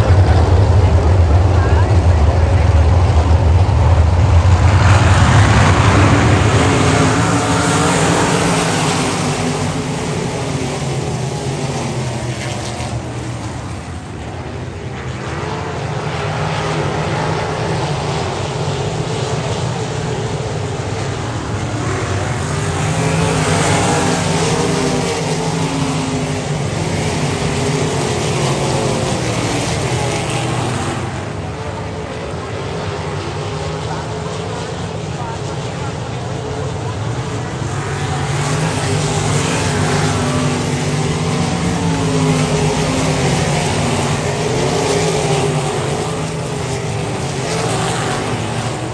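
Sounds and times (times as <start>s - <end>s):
racing car engines: 0.0s - 48.9s.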